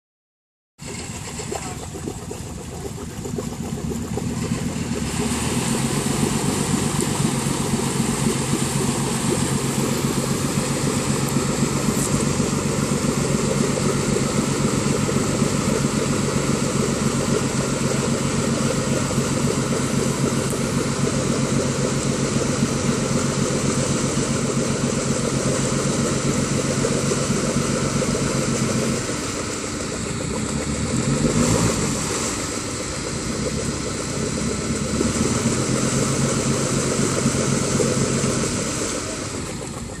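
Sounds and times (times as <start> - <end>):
off-road engine at raised revs: 0.8 - 40.0.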